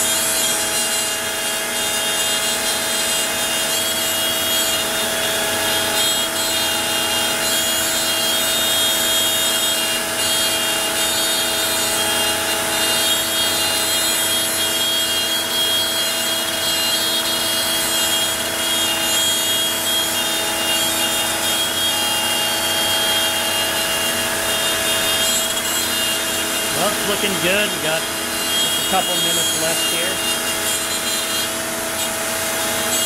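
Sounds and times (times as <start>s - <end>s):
cnc router spindle whining: 0.0s - 33.0s.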